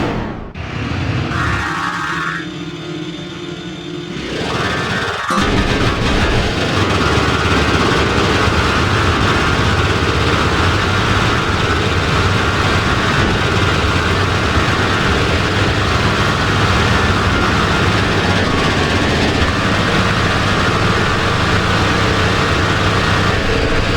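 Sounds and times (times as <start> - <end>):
dark synth drone: 0.0 - 23.9.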